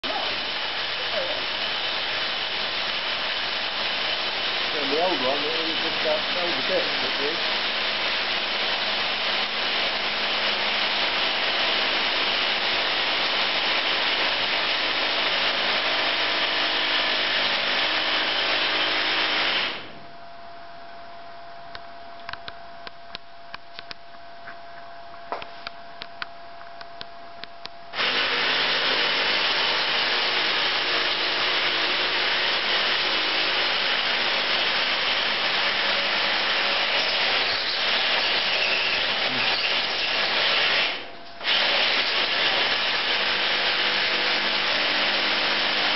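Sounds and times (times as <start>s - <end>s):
power drill boring into rock: 0.2s - 20.0s, 28.0s - 45.9s.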